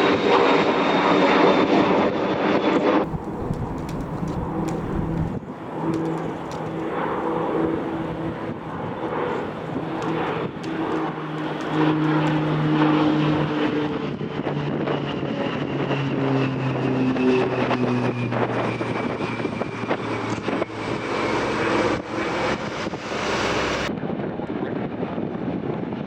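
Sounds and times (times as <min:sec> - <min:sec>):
jet engines passing: 0:00.0 - 0:23.9.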